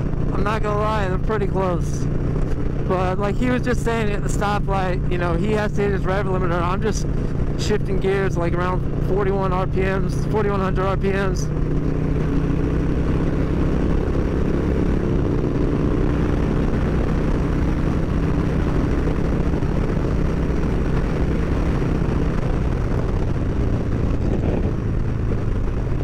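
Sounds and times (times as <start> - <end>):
motorcycle engine cruising: 0.0 - 26.0
wind rush: 0.0 - 26.0.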